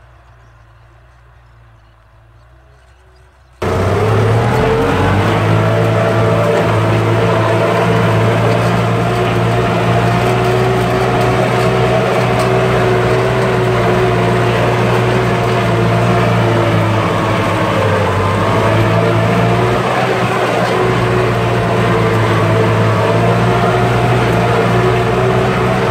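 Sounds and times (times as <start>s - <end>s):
tractor engine under load: 0.0s - 25.9s.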